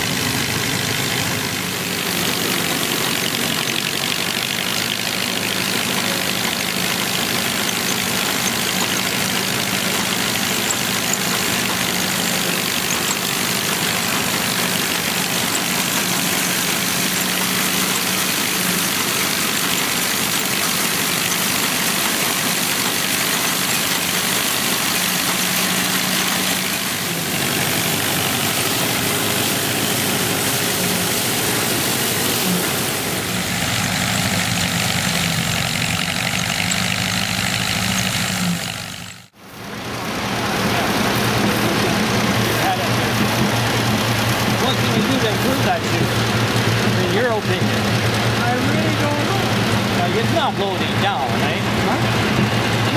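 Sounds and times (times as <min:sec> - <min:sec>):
combine harvester threshing: 0:00.0 - 0:52.9.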